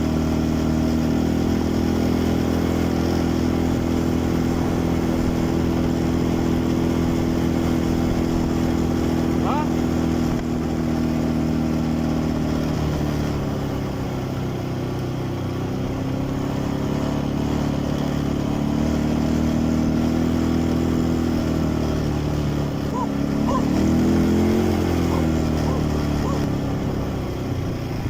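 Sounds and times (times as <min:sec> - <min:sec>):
quad bike engine running: 0:00.0 - 0:28.0.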